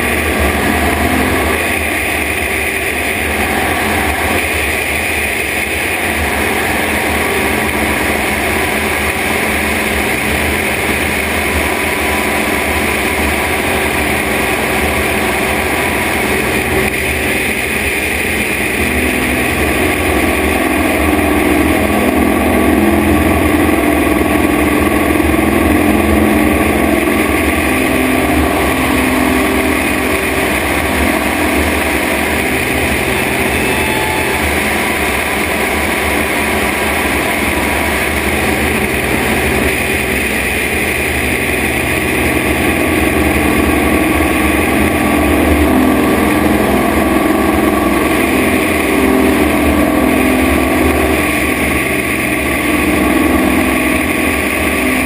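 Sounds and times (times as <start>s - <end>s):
propeller plane engine running: 0.0s - 55.0s
rushing airflow: 0.0s - 55.0s.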